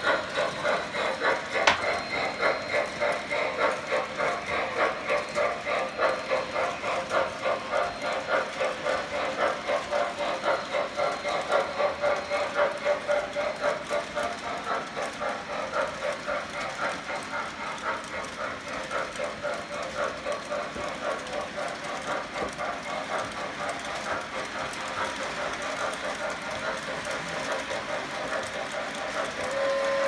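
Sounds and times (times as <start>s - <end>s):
model train rhythmic clatter: 0.0s - 30.0s.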